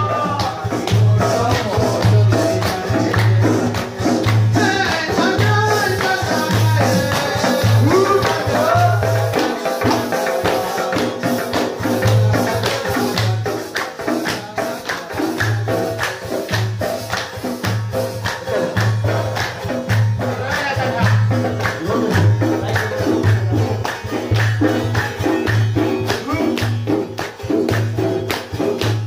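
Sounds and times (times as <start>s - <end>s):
man singing: 0.0s - 17.1s, 17.9s - 26.6s
hand drums: 0.0s - 29.0s.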